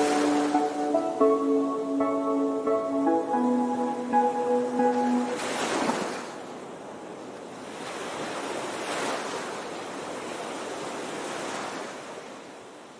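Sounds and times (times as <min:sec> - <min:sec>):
sea surf breaking on shore: 0:00.0 - 0:12.8.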